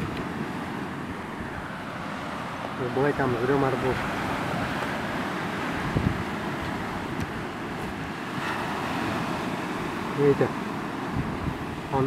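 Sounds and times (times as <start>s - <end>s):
surf on pebble beach: 0.0s - 12.0s
wind buffeting microphone: 0.0s - 12.0s.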